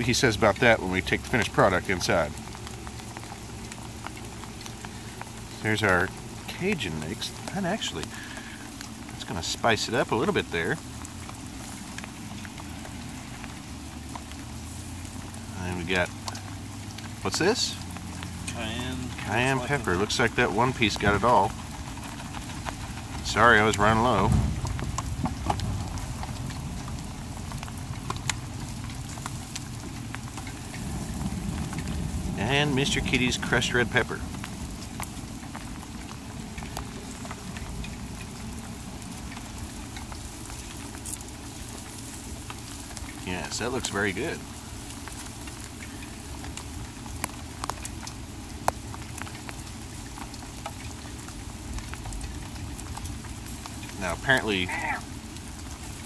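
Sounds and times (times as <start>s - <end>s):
chicken sizzling on grill: 0.0s - 56.0s
rain patter: 0.0s - 56.0s.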